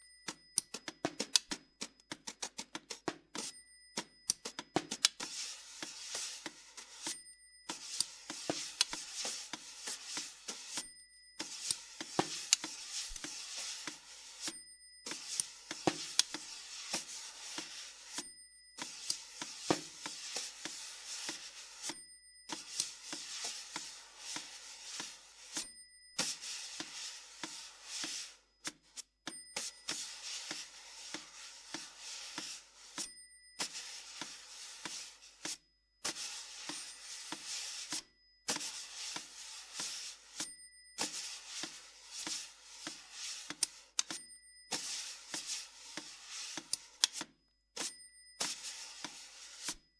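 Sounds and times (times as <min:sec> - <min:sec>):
faint high steady tones: 0:00.0 - 0:00.9, 0:03.3 - 0:49.9
scraping on snare drumhead: 0:00.0 - 0:49.8.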